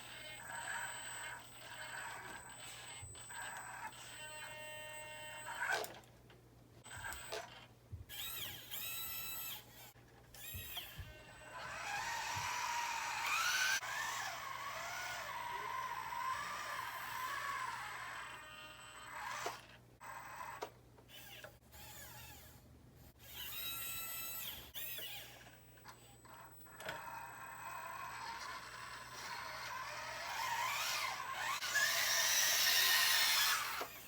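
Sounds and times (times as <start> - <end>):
small electric motors whining: 0.0 - 6.1, 6.8 - 34.0.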